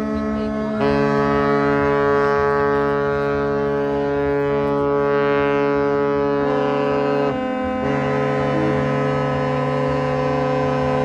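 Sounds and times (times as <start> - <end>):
low held music chords: 0.0 - 11.0.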